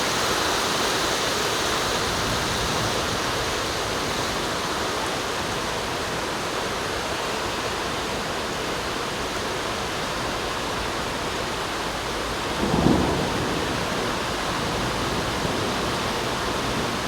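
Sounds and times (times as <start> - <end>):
heavy rain roaring: 0.0 - 17.0.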